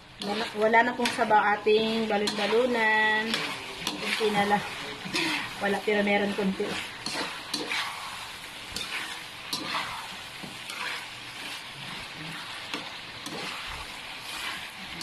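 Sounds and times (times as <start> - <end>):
food sizzling in a pan: 0.0 - 15.0
metal spatula scraping a pan: 0.0 - 15.0.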